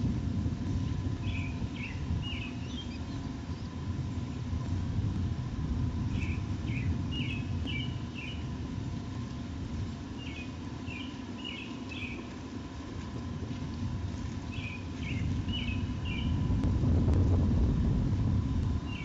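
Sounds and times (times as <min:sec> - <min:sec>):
faint steady hum: 0:00.0 - 0:19.0
steady low rumble: 0:00.0 - 0:19.0.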